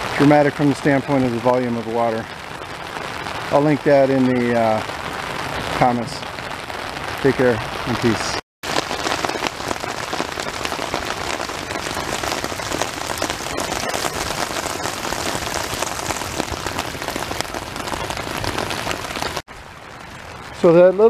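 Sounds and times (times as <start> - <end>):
rain falling on stream and gravel: 0.0 - 21.0.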